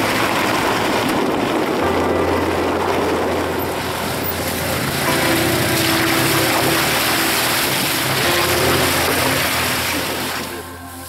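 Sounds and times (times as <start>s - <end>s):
car driving on gravel road: 0.0s - 11.0s.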